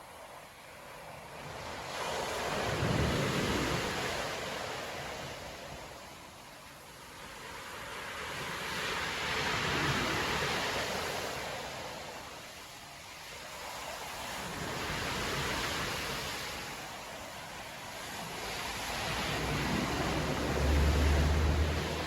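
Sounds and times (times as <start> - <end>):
sea waves breaking on beach: 0.0 - 22.0.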